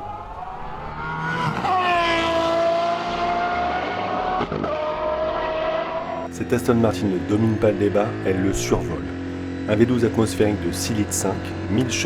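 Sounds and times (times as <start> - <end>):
car engine screaming at high revs: 0.0 - 12.0.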